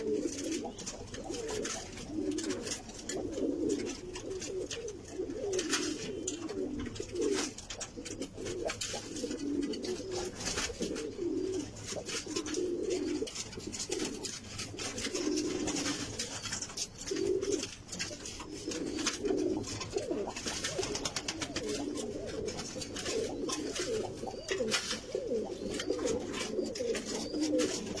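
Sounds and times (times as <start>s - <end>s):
light clicks and rustles: 0.0s - 28.0s
pigeons cooing: 0.0s - 28.0s.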